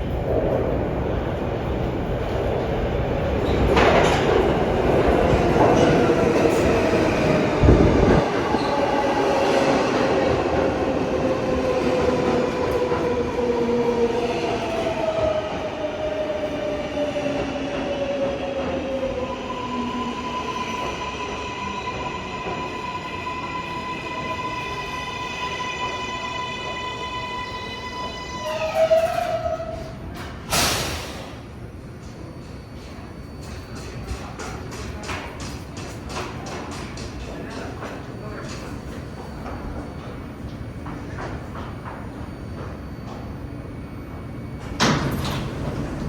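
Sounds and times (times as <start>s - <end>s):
subway train motor whine: 0.0s - 35.1s, 37.3s - 46.0s
train rumble: 0.0s - 46.0s.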